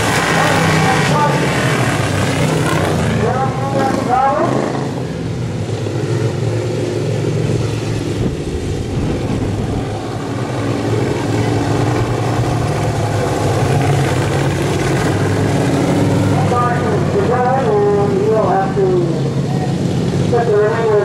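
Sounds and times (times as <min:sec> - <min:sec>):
lawn mower engines racing: 0:00.0 - 0:21.0.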